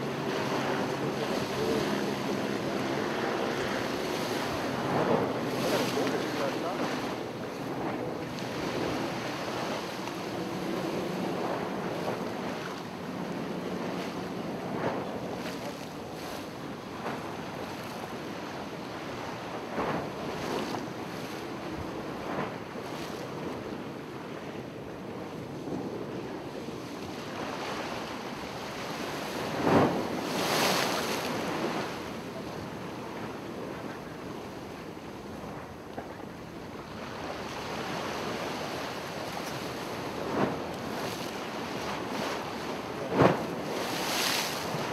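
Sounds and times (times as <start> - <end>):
ocean waves washing in: 0.0 - 44.9.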